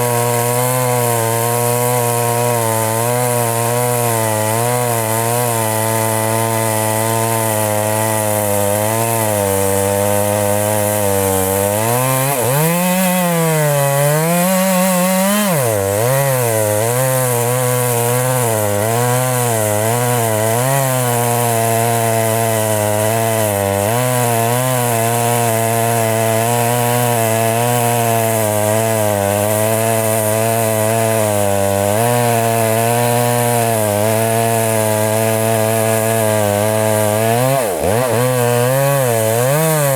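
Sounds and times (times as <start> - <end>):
chainsaw cutting tree trunk: 0.0 - 39.9.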